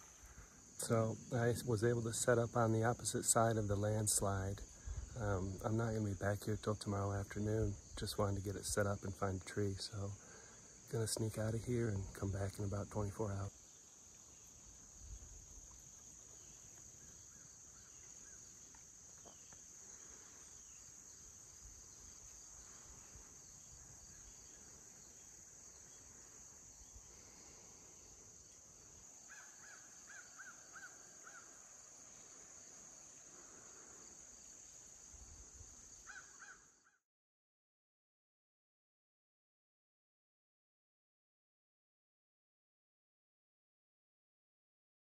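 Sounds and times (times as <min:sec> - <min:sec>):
high insect chorus: 0:00.0 - 0:37.0.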